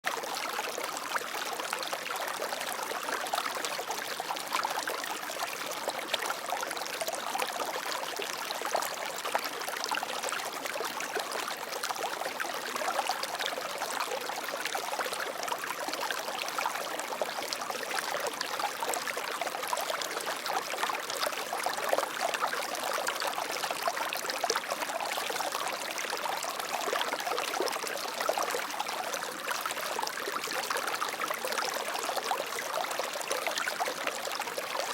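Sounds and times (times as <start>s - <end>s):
water babbling and splashing: 0.0s - 34.9s.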